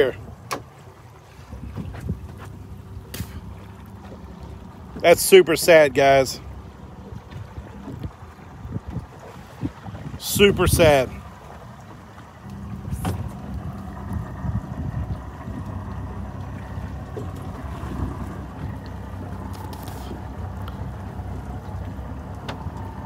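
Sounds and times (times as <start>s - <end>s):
boat engine idling: 0.0s - 23.0s
wind buffeting microphone: 1.4s - 5.0s, 6.5s - 23.0s.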